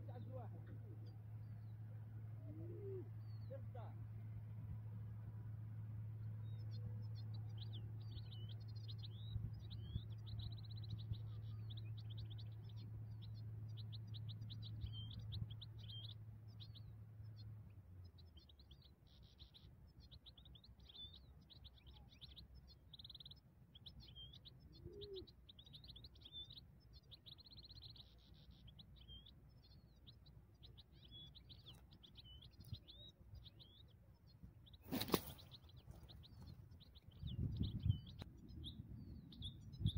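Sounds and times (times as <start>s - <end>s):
goldfinch singing: 0.0s - 39.9s
low steady hum: 0.0s - 39.9s.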